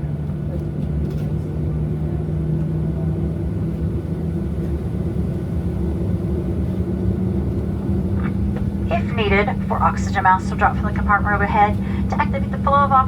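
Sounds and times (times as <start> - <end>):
aircraft cabin hum: 0.0 - 13.0.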